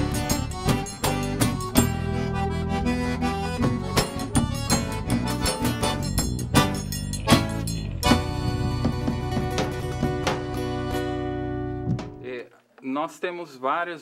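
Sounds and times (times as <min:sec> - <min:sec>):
accordion melody: 0:00.0 - 0:12.2
drum and guitar beat: 0:00.0 - 0:12.3.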